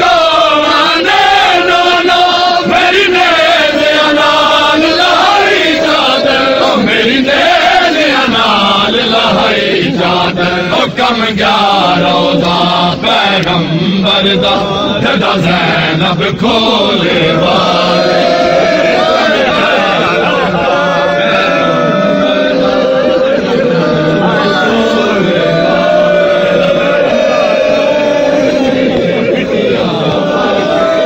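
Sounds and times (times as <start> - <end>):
men chanting a lament in unison: 0.0 - 31.0.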